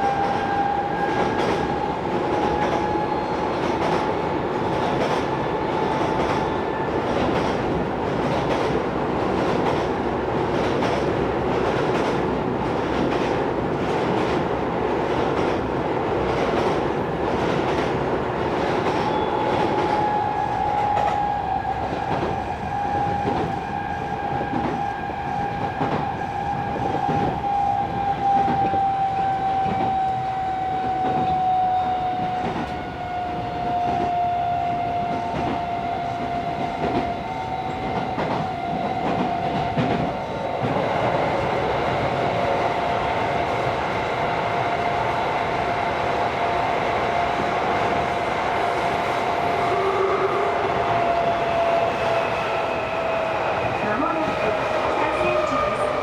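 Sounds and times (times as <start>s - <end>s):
subway car whine: 0.0s - 56.0s.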